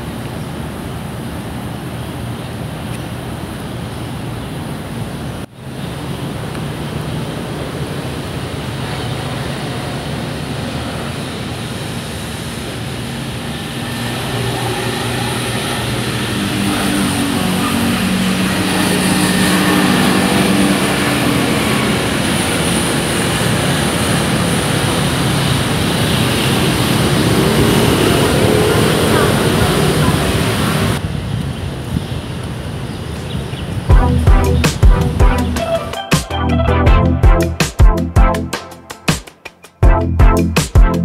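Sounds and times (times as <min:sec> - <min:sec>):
road traffic rush: 0:00.0 - 0:41.0.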